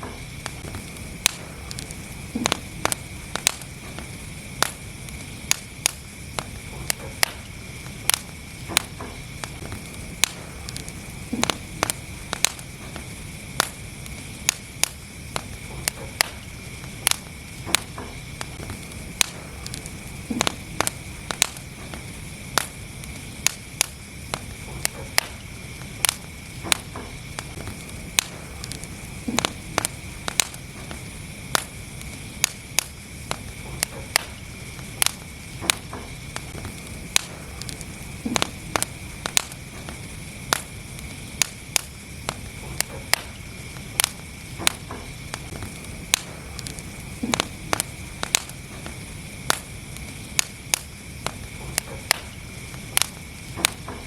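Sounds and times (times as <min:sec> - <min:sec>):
logs crackling and popping: 0:00.0 - 0:54.0
wood fire rumbling: 0:00.0 - 0:54.0.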